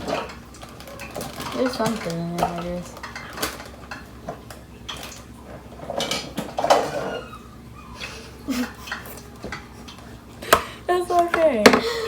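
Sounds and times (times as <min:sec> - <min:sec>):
dishes and cutlery clattering: 0:00.0 - 0:07.4, 0:08.0 - 0:11.9.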